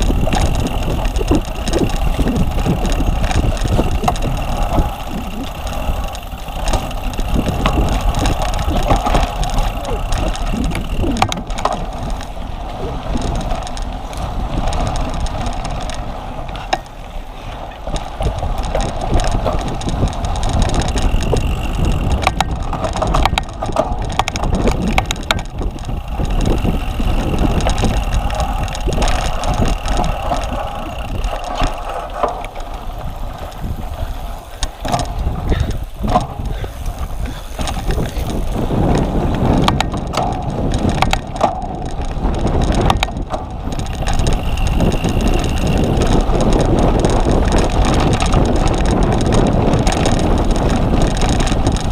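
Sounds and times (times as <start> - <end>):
bike rattling over rough ground: 0.0 - 51.9
wind on microphone: 0.0 - 51.9.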